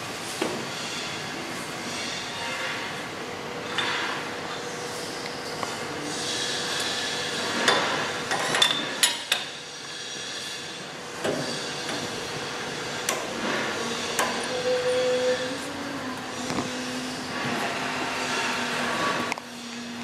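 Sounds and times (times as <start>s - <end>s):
workshop noise: 0.0s - 20.0s.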